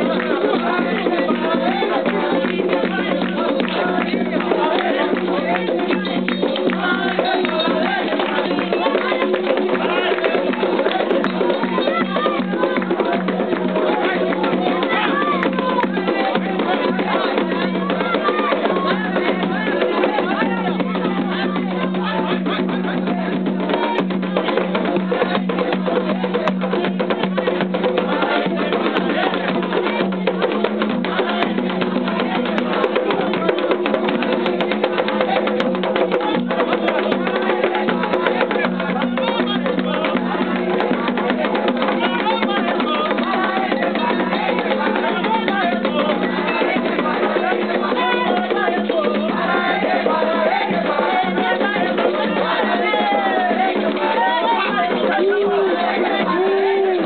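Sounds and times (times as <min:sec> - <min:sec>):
fast hand drum strokes: 0:00.0 - 0:57.0
group singing: 0:00.0 - 0:57.0.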